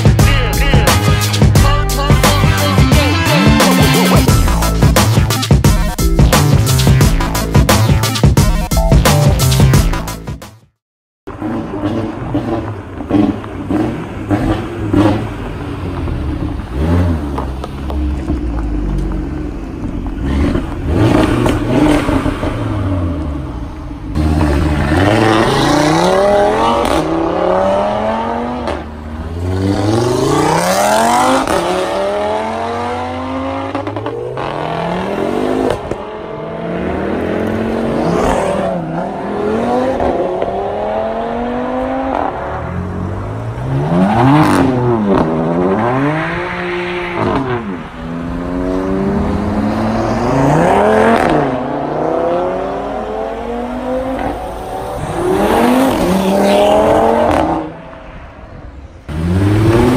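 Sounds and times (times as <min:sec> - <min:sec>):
car engines revving hard: 0:11.3 - 0:58.0, 0:58.6 - 0:59.9.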